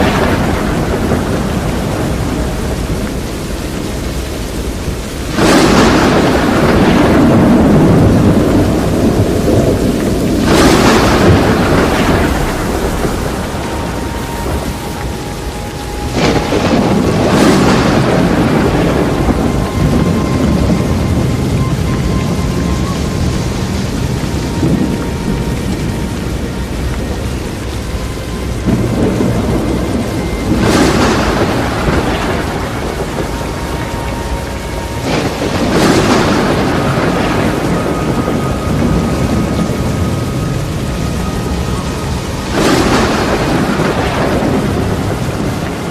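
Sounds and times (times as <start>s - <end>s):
heavy rain: 0.0s - 45.9s
thunder rumbling: 0.0s - 45.9s.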